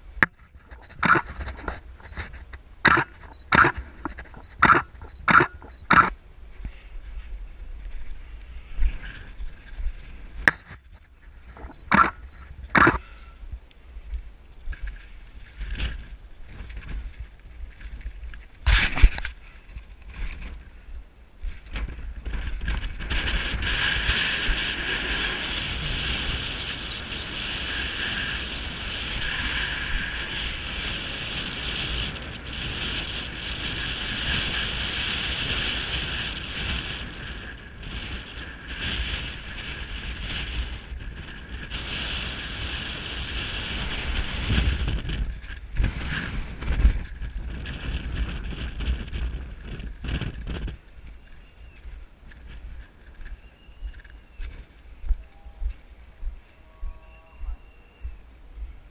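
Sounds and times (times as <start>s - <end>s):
steady higher hiss: 0.0s - 58.9s
wind buffeting microphone: 0.0s - 58.9s.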